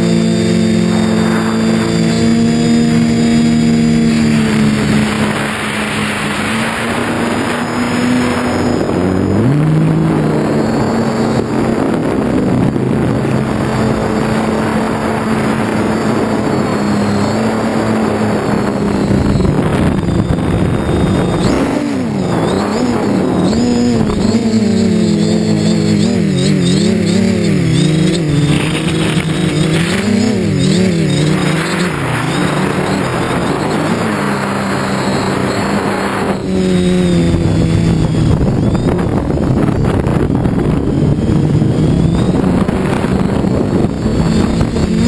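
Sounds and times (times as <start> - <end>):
drone motors buzzing: 0.0 - 45.0
propeller wash rushing: 0.0 - 45.0.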